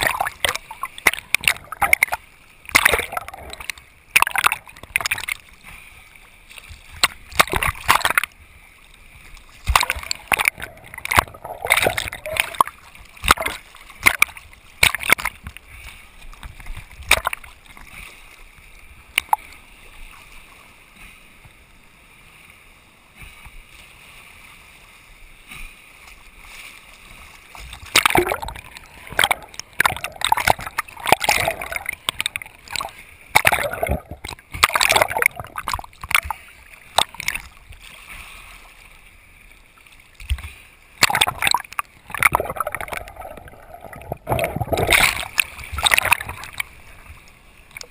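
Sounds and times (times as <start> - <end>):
sea water splashing from swim strokes: 0.0 - 21.4, 22.0 - 47.9.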